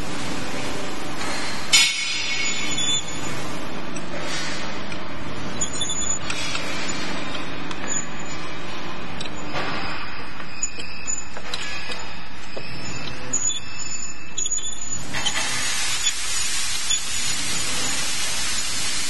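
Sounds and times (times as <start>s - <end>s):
cable stripping machine running: 0.0s - 19.0s.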